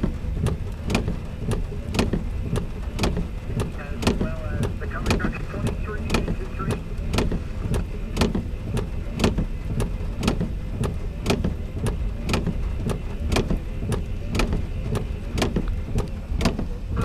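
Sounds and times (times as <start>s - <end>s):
low rumble of train cars: 0.0s - 17.0s
train wheels clicking over rail joints: 0.0s - 17.0s.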